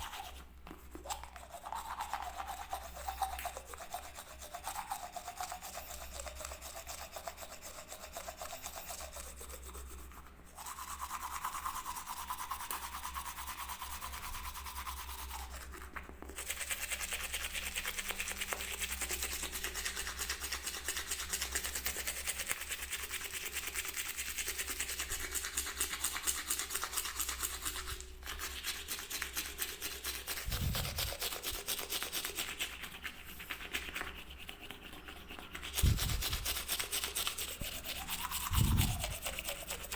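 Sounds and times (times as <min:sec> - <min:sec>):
toothbrush scrubbing: 0:00.0 - 0:39.9.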